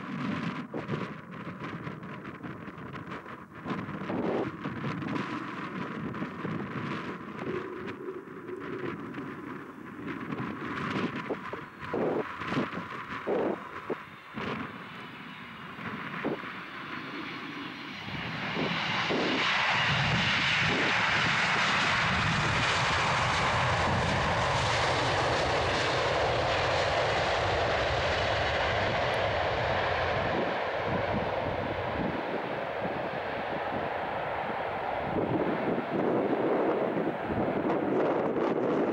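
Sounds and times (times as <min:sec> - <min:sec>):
jet engine roar: 0:00.0 - 0:38.9.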